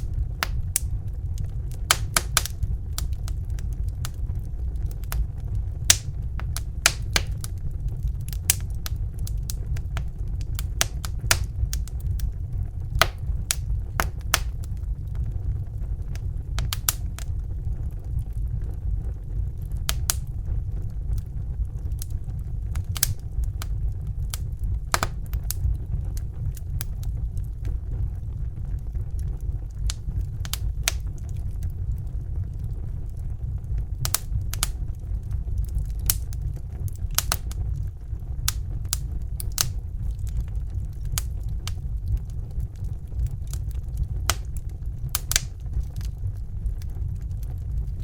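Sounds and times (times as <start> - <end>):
fire crackling: 0.0 - 48.0.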